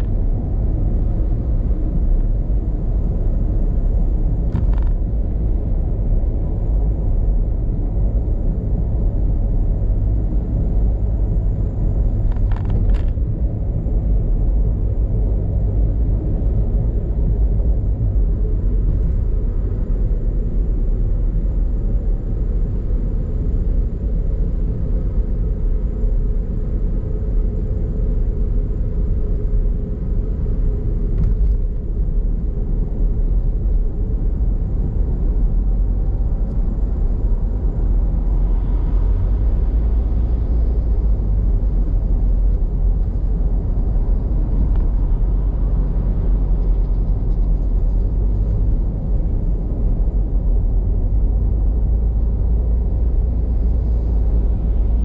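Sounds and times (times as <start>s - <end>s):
road and wind noise in car: 0.0s - 55.0s.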